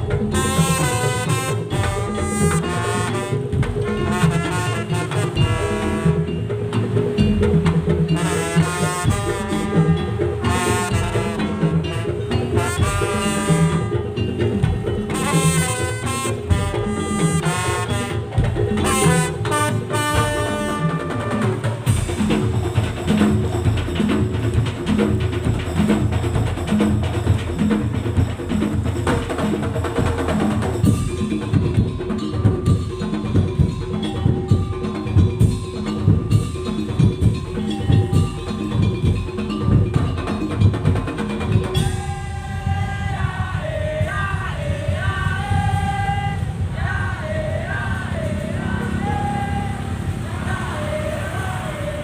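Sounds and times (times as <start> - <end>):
high sliding melody: 0.0 - 42.7
wooden slit drums and drums: 0.0 - 50.4.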